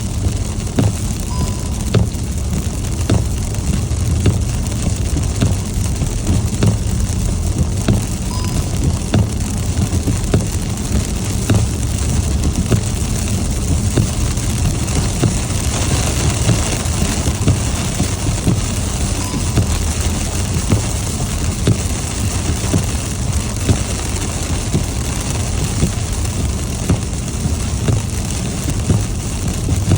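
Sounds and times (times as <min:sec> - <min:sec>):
rain hiss: 0:00.0 - 0:29.9
raindrops ticking on car: 0:00.0 - 0:29.9
road and engine rumble: 0:00.0 - 0:29.9.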